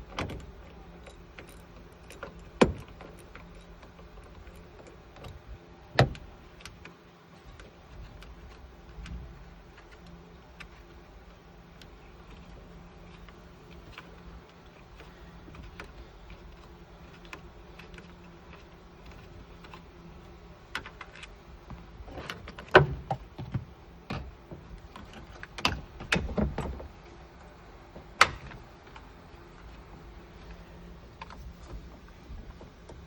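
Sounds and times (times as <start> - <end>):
sharp clicks and knocks: 0.0 - 27.0, 27.9 - 33.0
faint low hum: 0.0 - 33.0.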